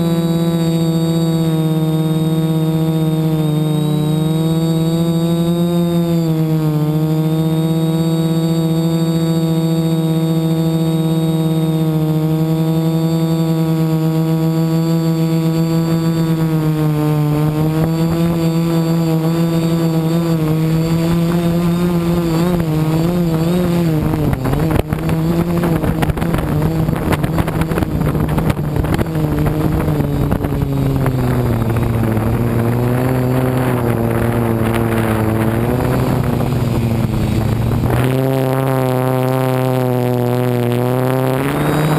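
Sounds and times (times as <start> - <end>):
drone propellers whining: 0.0 - 41.9.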